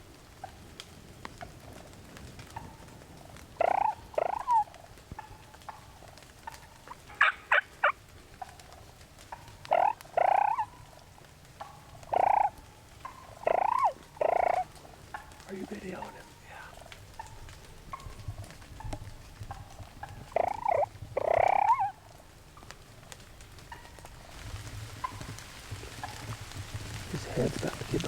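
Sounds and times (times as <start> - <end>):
wild turkey calling: 0.3 - 1.6, 2.4 - 28.0.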